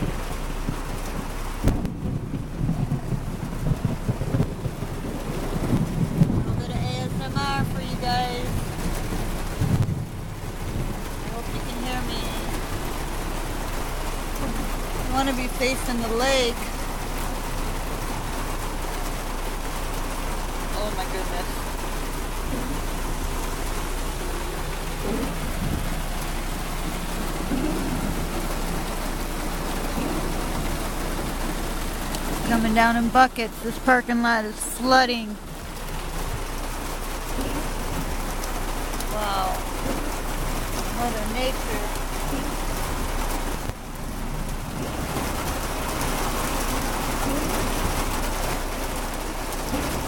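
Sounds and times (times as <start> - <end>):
heavy rain on car roof: 0.0 - 50.0.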